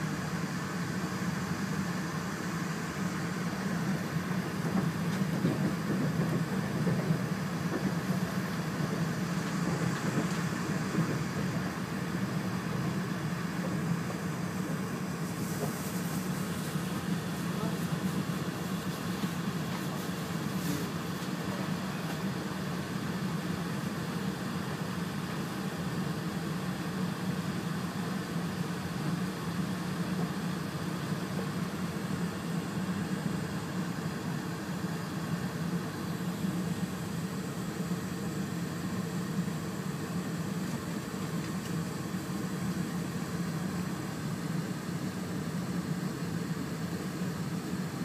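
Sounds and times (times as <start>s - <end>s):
train carriage hum and rumble: 0.0s - 48.0s.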